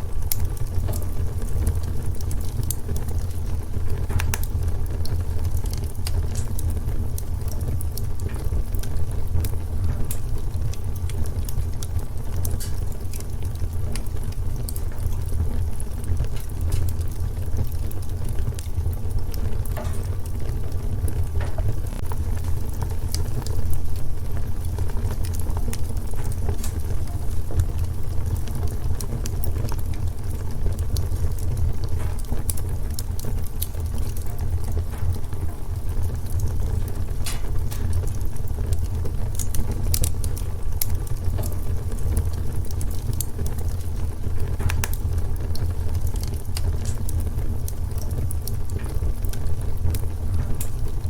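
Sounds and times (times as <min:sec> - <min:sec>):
burning logs crackling and popping: 0:00.0 - 0:51.0
low rumble of flames: 0:00.0 - 0:51.0.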